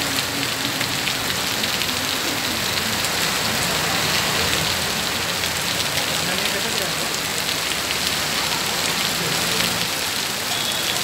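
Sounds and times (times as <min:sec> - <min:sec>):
heavy rain on wet road: 0:00.0 - 0:11.0.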